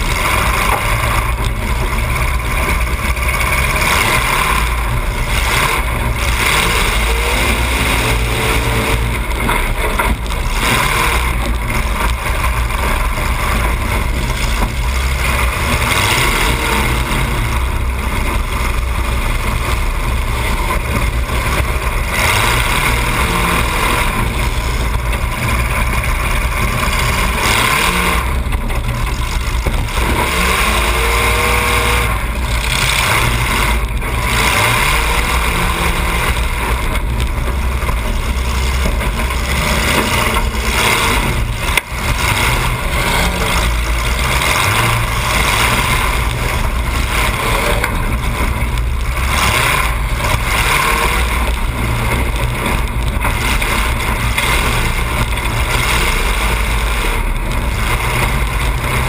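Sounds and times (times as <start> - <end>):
car engine running loud: 0.0 - 59.0.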